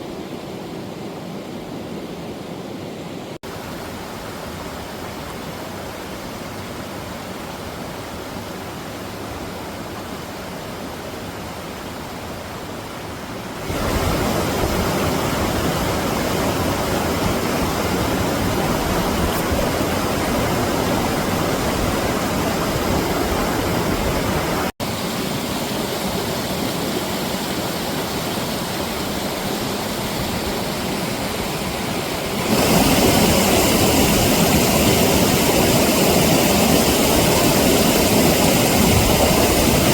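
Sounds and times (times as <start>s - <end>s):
water rushing over rocks: 3.4s - 39.9s.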